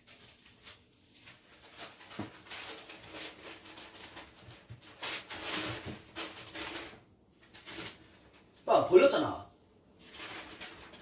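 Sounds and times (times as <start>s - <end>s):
snake rustling across newspaper: 0.0s - 11.0s.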